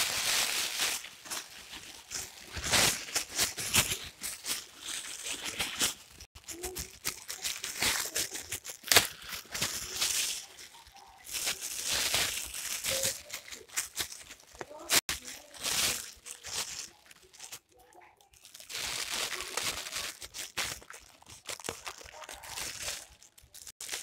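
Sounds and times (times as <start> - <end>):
plastic sack rustling: 0.0 - 17.6, 18.4 - 24.0
sharp plastic crackle: 0.0 - 24.0.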